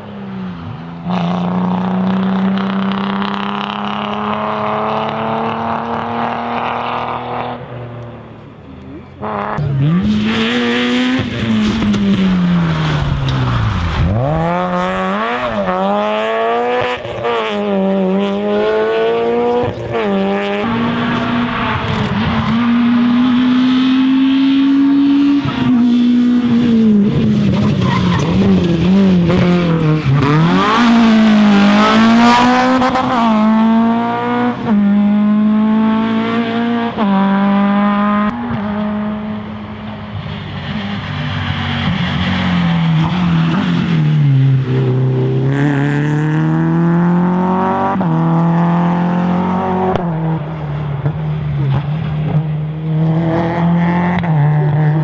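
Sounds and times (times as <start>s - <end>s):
rally car engine revving: 1.0s - 55.0s.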